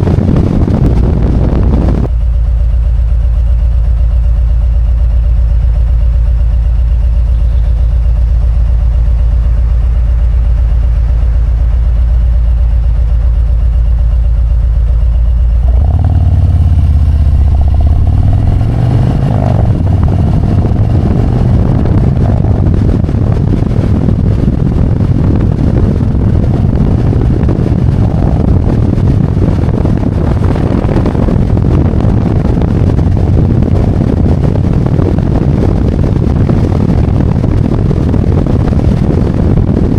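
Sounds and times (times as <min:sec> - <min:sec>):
wind noise: 0:00.0 - 0:02.3, 0:03.8 - 0:39.9
motorcycle engine: 0:00.0 - 0:39.9.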